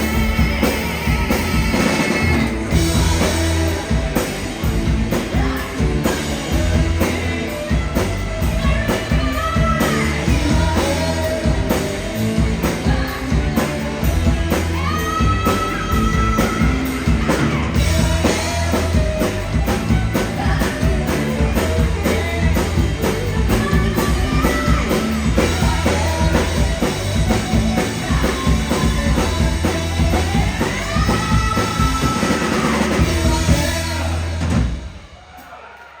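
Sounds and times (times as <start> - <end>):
person singing: 0.0 - 34.6
rock band playing: 0.0 - 35.9.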